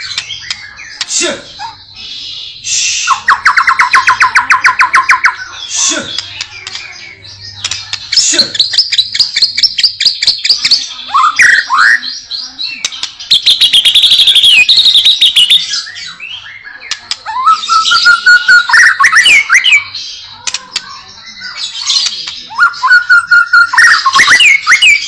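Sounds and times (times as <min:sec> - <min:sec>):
rapid chattering trills: 0:00.0 - 0:25.0
songbird singing varied song: 0:00.0 - 0:25.0.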